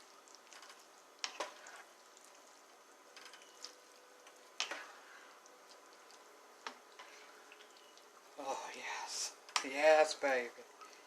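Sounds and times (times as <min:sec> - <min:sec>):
faint steady background noise: 0:00.0 - 0:11.0.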